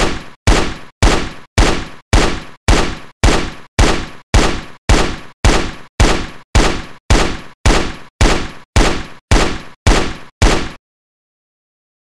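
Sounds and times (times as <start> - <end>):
rifle shots: 0.0 - 10.8.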